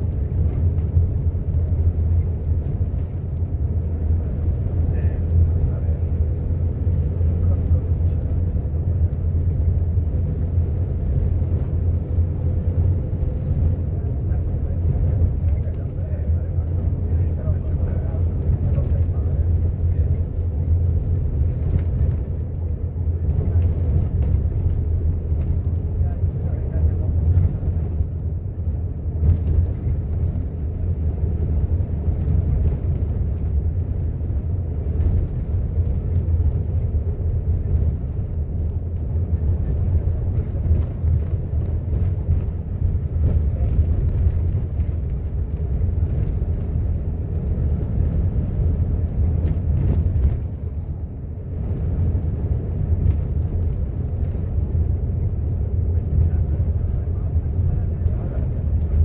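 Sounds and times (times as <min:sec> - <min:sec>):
low outdoor rumble: 0:00.0 - 0:59.0.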